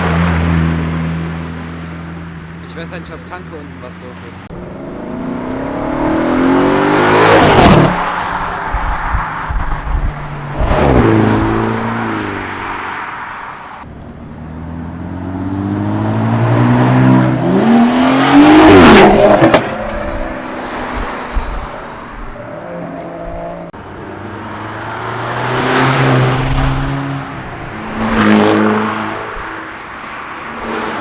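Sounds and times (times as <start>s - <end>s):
cars accelerating past: 4.6s - 31.0s.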